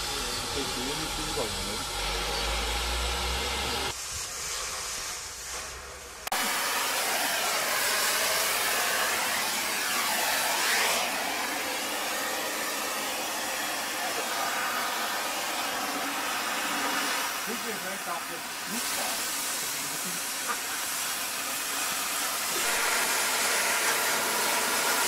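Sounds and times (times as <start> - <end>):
cutting torch hissing: 0.0 - 25.0.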